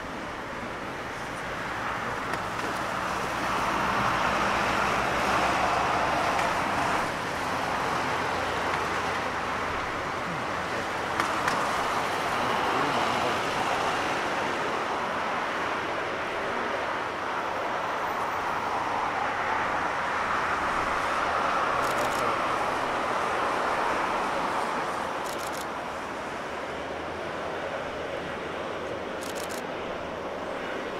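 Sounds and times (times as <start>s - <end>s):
jet engines at takeoff thrust: 0.0s - 30.9s.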